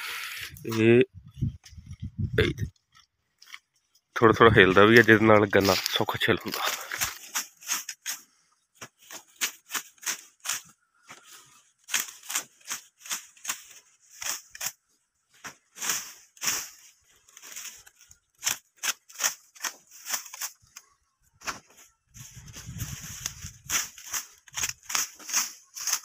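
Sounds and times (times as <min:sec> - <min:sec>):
dry leaves crackling and rasping: 0:02.7 - 0:26.0
blade stripping leaves: 0:02.9 - 0:26.0.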